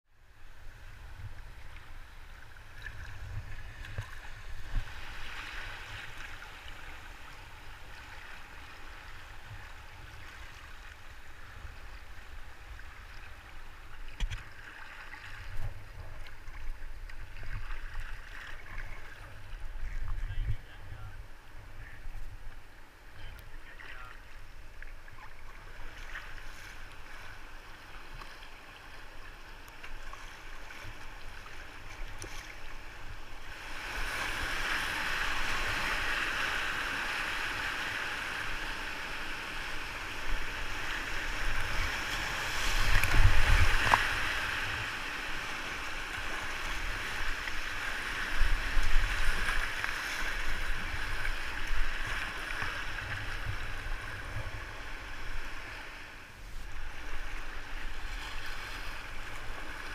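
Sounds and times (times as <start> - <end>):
rushing river water: 0.2 - 59.9.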